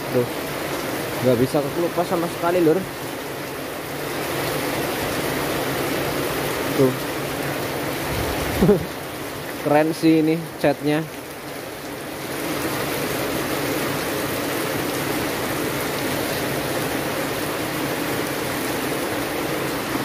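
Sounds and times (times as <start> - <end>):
heavy rain on concrete: 0.0 - 20.0.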